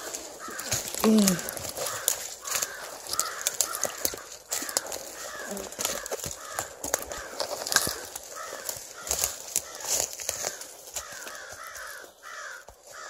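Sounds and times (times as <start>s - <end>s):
footsteps crunching dry leaves: 0.0s - 13.0s
twigs snapping: 0.0s - 13.0s.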